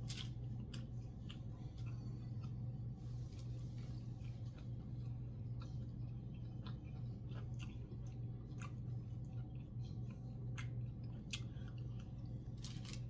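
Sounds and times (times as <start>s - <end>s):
person chewing food: 0.0s - 2.8s, 3.4s - 13.0s
steady low hum: 0.0s - 13.0s.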